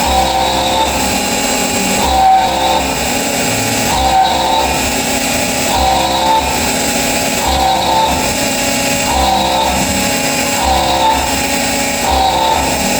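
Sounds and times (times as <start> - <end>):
end mill cutting aluminium: 0.0 - 12.9
spindle whine: 0.0 - 12.9.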